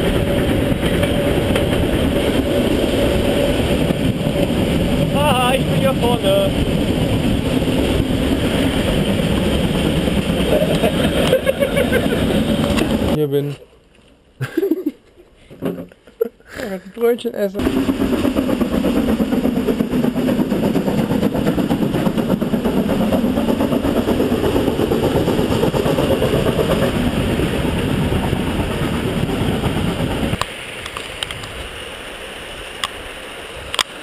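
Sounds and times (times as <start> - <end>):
steam train passing: 0.0 - 13.6, 16.4 - 34.0.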